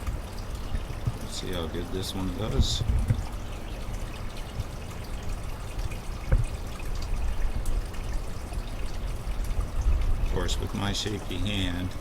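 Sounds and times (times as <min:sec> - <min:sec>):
water trickling and pouring: 0:00.0 - 0:12.0.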